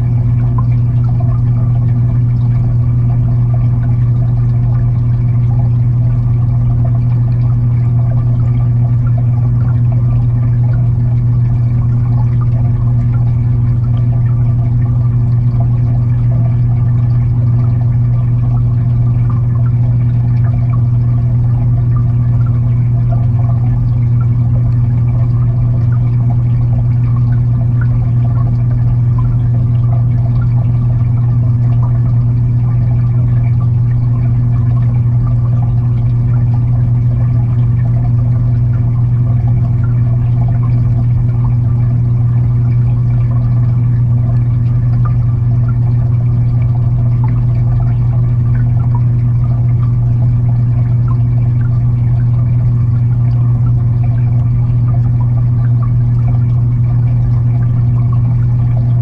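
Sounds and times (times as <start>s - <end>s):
aquarium filter hum: 0.0s - 59.0s
churning crackling water underwater: 0.0s - 59.0s.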